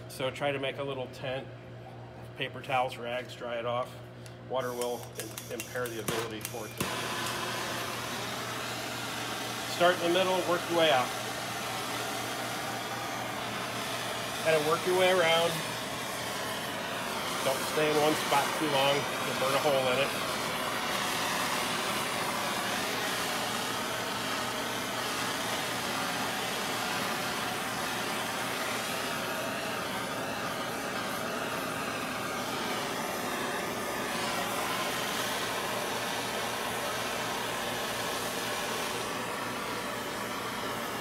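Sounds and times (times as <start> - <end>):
gas torch hissing: 4.6 - 41.0.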